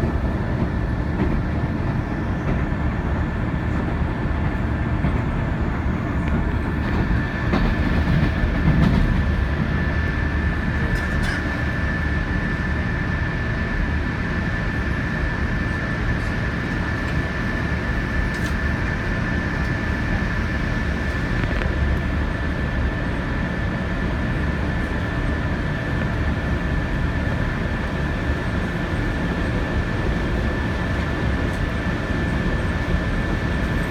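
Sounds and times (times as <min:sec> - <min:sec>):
train high whine: 0:00.0 - 0:33.9
train rumbling: 0:00.0 - 0:33.9.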